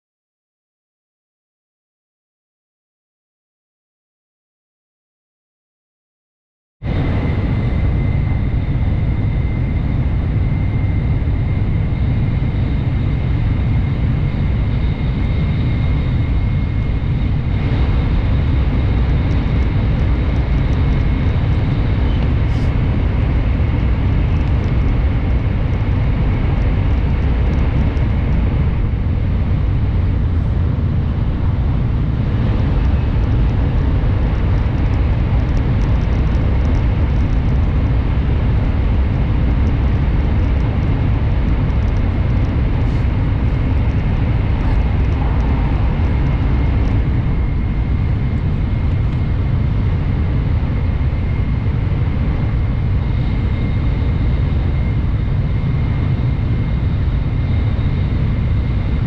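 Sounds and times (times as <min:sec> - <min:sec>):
train interior low rumble: 0:06.8 - 0:59.0
faint high whine: 0:06.9 - 0:59.0.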